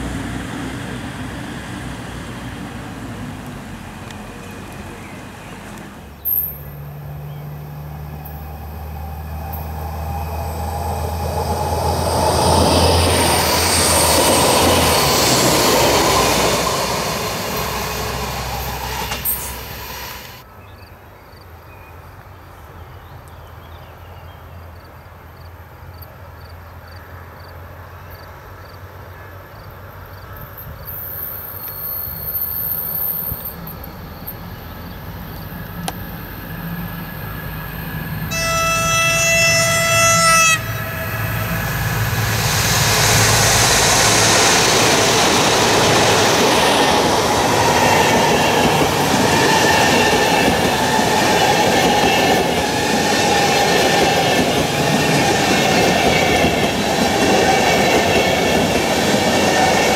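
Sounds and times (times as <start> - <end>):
distant train approaching: 0.0 - 20.6, 23.6 - 59.9
diesel railcar passing: 0.0 - 59.9.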